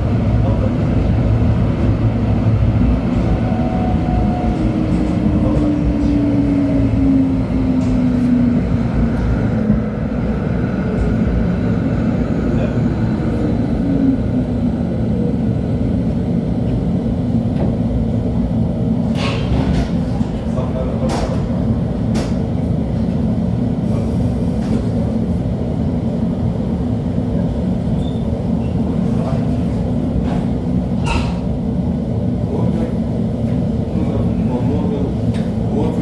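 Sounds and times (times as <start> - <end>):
wheels rumbling on rails: 0.0 - 36.0.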